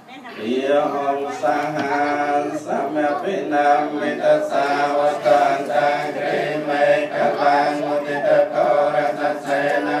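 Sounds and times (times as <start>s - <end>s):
monks chanting in unison: 0.4s - 10.0s.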